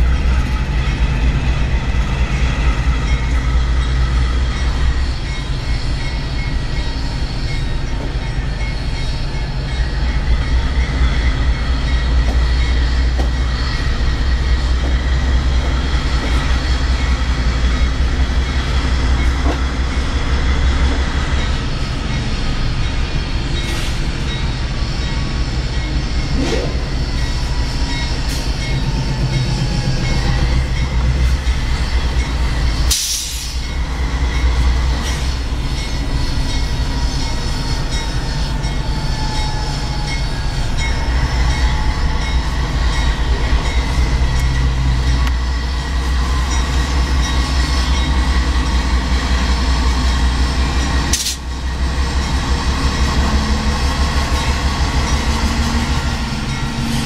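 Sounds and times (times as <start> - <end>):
diesel locomotive engine throbbing: 0.0 - 57.0.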